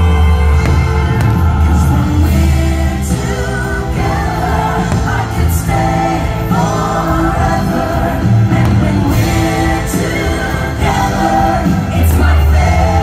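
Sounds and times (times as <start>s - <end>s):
music with singing voices: 0.0s - 13.0s.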